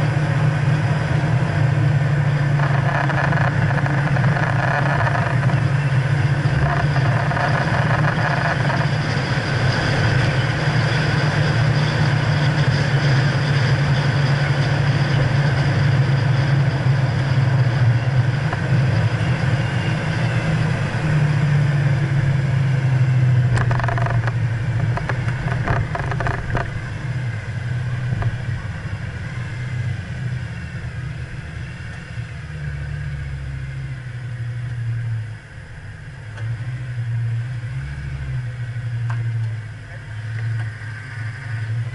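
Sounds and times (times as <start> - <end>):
car engine running at speed: 0.0 - 41.9.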